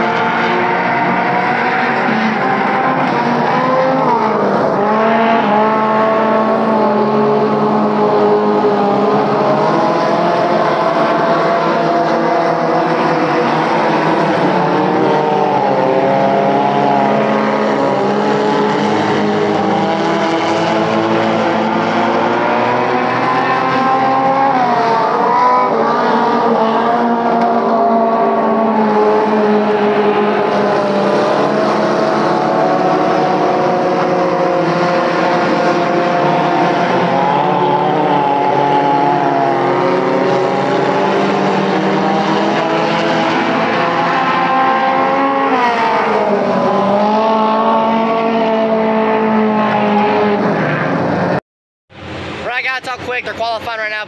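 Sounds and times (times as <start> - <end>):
race car engines revving: 0.0 - 51.4, 52.0 - 54.0.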